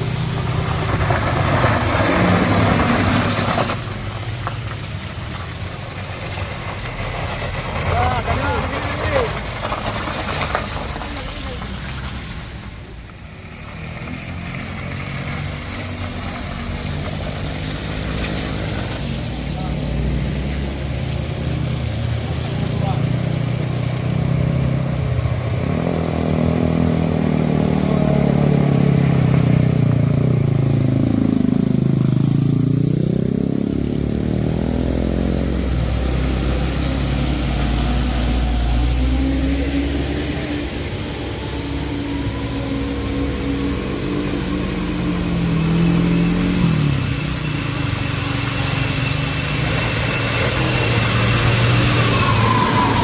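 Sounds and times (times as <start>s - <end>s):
heavy vehicle engines labouring: 0.0s - 53.0s.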